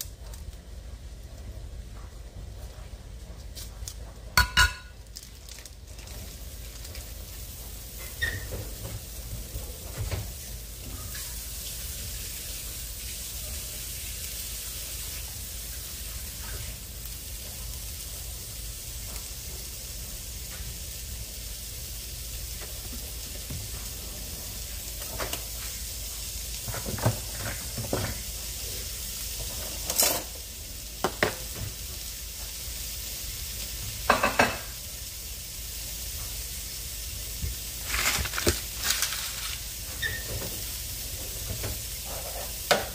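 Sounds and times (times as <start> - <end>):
sausage sizzling in a skillet: 4.4 - 42.9.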